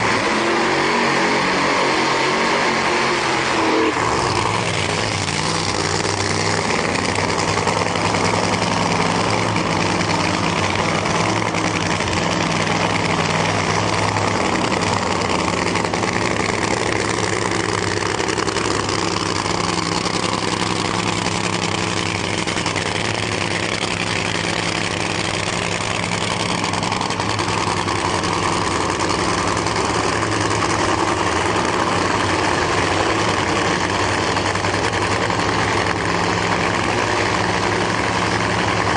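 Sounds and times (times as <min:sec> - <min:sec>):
drag car engine idling: 0:00.0 - 0:38.9.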